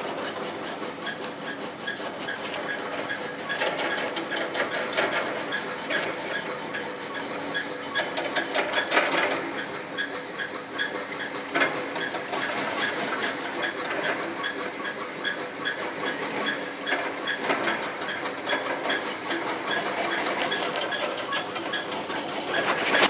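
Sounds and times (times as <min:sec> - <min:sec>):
machine motor hum: 0:00.0 - 0:23.0
regular machine clacking: 0:00.0 - 0:23.0.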